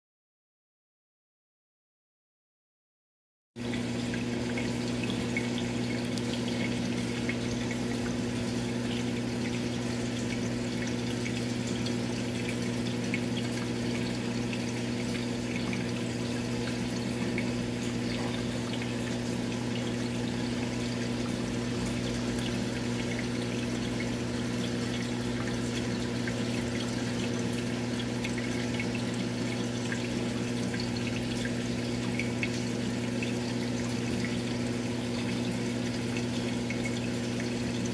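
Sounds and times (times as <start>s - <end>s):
aquarium pump humming: 3.6s - 37.9s
water trickling and bubbling: 3.6s - 37.9s.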